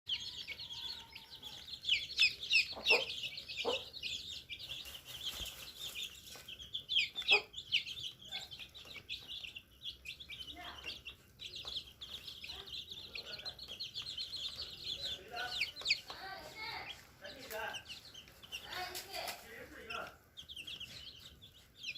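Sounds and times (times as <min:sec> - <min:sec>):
chickens clucking: 0:00.1 - 0:21.9.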